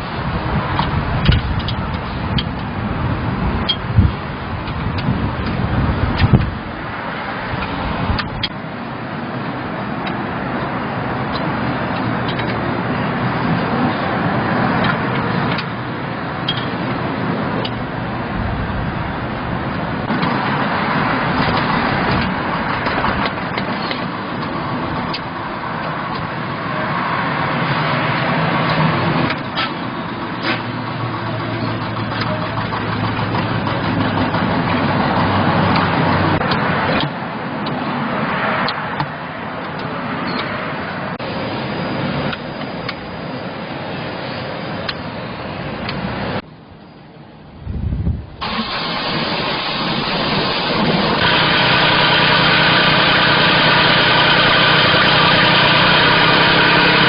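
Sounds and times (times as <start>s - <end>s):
vehicle engine running: 0.0s - 36.6s, 47.8s - 57.0s.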